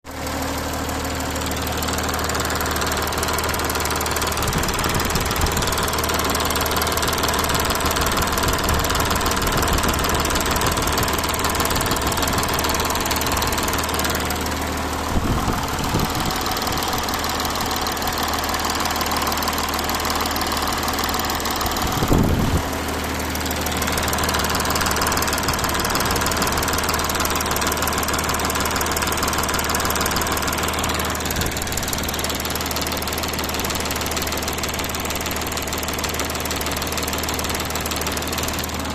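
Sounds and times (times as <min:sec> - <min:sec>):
car engine idling: 0:00.1 - 0:38.9.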